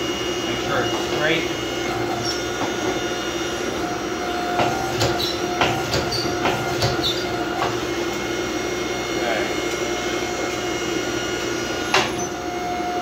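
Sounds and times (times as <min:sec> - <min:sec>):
power hammer humming: 0:00.0 - 0:13.0.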